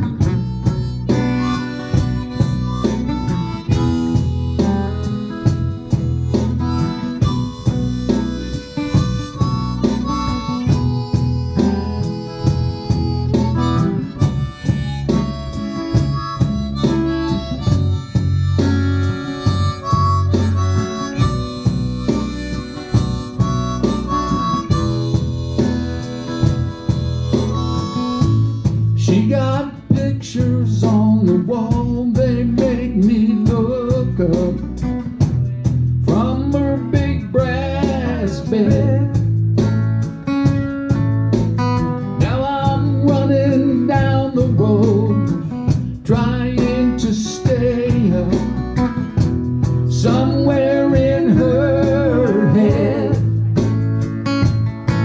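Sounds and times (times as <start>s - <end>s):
blues harmonica solo: 0.0s - 55.0s
electric guitar accompaniment: 0.0s - 55.0s
repeating bass line: 0.0s - 55.0s
steady beat: 0.0s - 55.0s.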